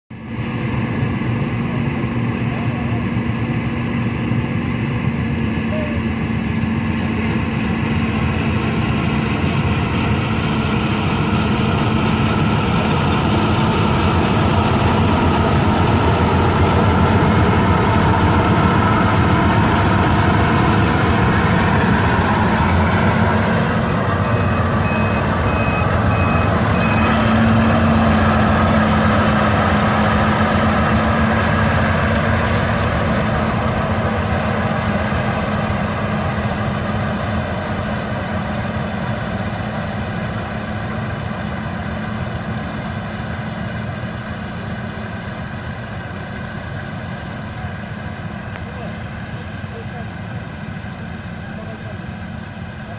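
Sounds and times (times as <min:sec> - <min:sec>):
combine harvester running: 0:00.1 - 0:52.9.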